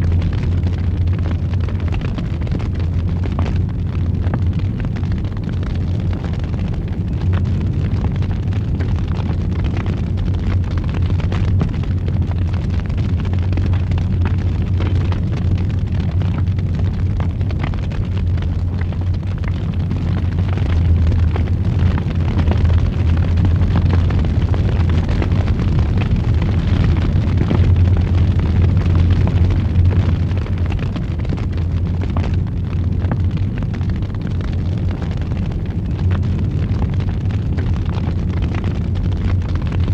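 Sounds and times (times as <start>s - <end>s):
fire crackling and popping: 0.0s - 39.9s
fire roaring in a fireplace: 0.0s - 39.9s.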